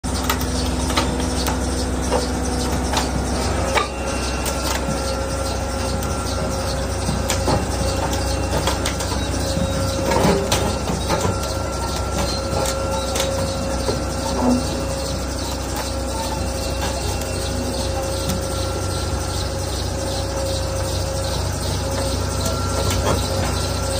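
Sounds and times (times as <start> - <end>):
excavator diesel engine rumble: 0.0 - 23.9
faint engine whine: 0.0 - 23.9.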